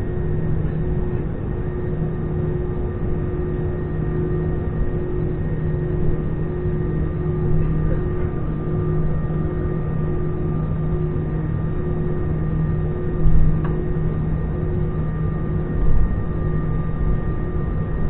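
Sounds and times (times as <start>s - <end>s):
aircraft cabin engine rumble: 0.0s - 18.0s
high engine whine: 0.0s - 18.0s.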